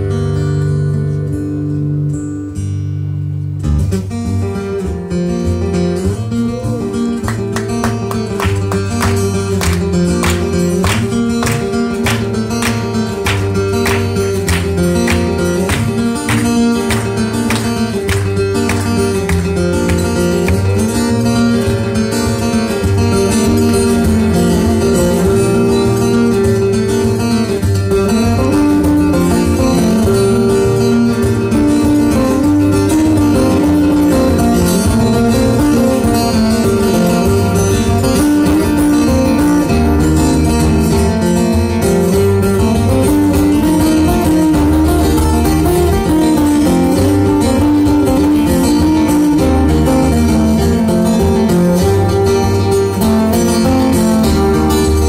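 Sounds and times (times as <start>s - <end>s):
acoustic guitars playing: 0.0s - 55.0s.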